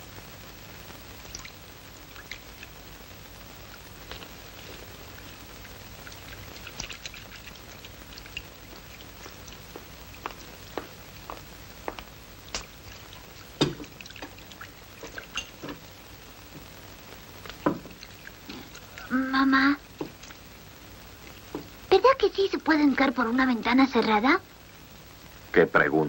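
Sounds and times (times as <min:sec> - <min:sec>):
film soundtrack crackle and hiss: 0:00.0 - 0:26.0.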